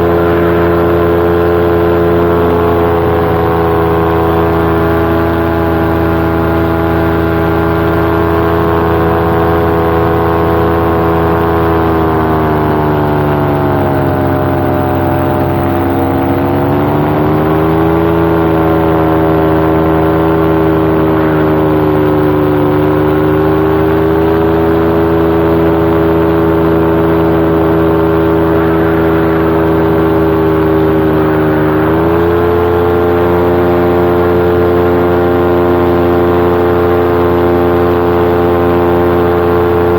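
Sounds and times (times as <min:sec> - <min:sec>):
two-stroke engine and propeller: 0:00.0 - 0:39.9.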